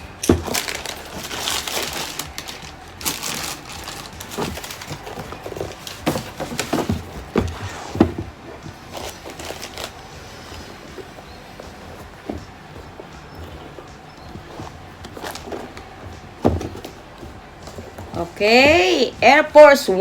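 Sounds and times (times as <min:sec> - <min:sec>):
cardboard box and paper rustling: 0:00.0 - 0:19.0.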